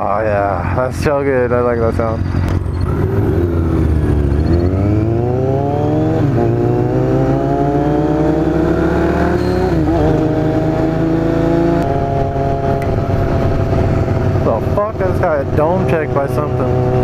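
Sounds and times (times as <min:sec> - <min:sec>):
motorcycle engine accelerating: 0:01.2 - 0:17.0.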